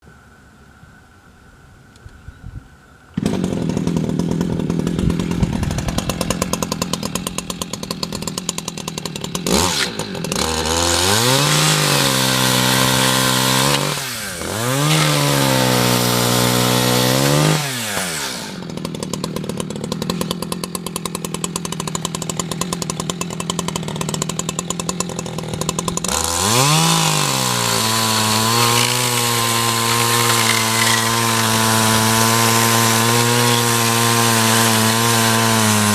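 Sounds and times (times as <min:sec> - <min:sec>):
chainsaw idling and revving: 0:03.2 - 0:35.9.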